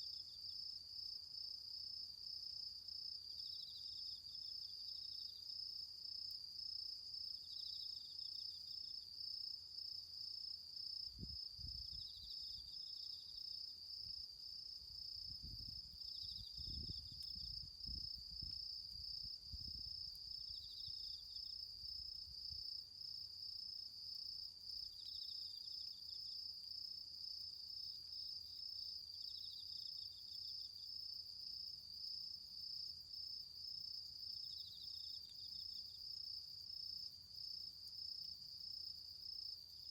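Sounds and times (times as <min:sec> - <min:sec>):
insect chirping: 0:00.0 - 0:39.9.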